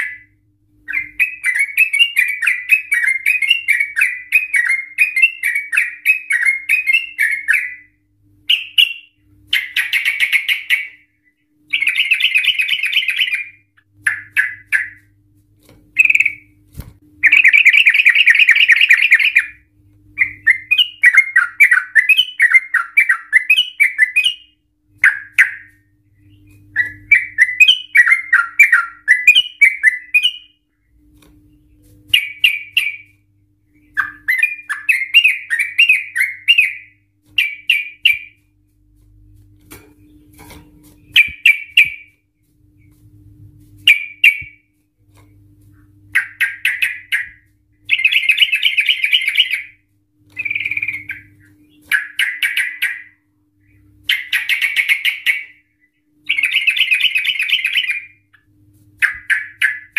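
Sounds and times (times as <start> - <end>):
bulbul singing: 0.0 - 15.2, 16.0 - 16.6, 17.2 - 30.9, 31.5 - 38.6, 39.9 - 42.2, 43.9 - 44.7, 46.0 - 59.9.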